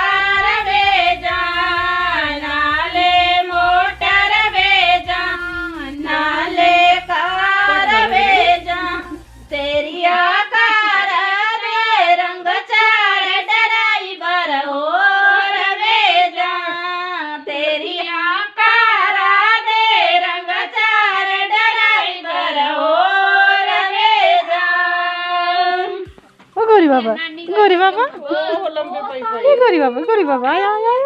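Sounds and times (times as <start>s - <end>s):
women singing together: 0.0s - 31.0s.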